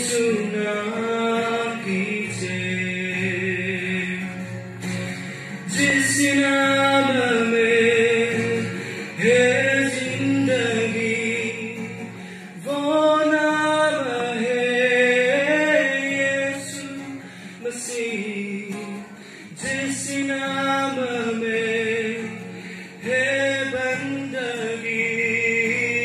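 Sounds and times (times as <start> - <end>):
acoustic guitar: 0.0 - 26.0.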